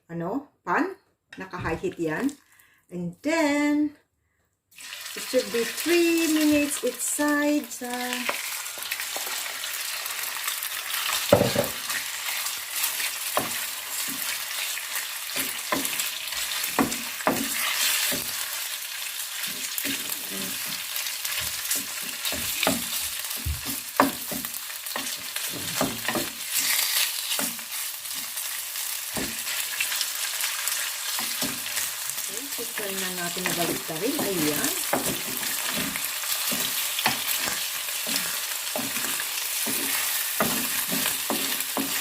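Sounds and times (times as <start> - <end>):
chicken frying in oil: 4.8 - 42.0.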